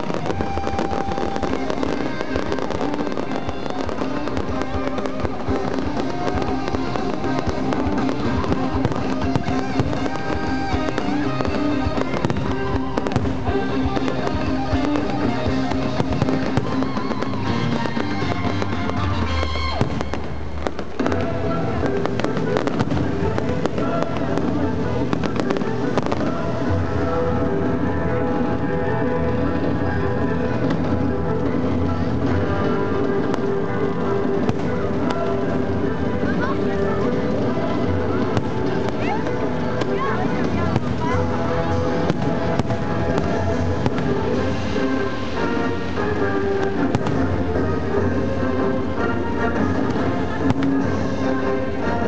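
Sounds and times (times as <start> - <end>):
fireworks crackling and popping: 0.0 - 52.0
music playing: 0.0 - 52.0.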